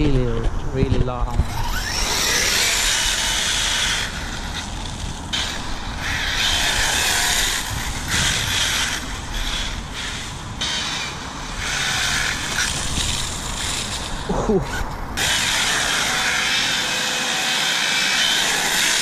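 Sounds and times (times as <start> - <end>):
rc car motor whining: 1.3 - 19.0.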